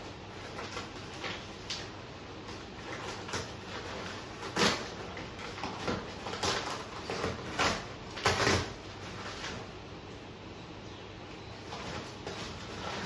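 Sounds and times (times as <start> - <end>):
paper packaging rustling: 0.0 - 9.8, 11.6 - 13.0.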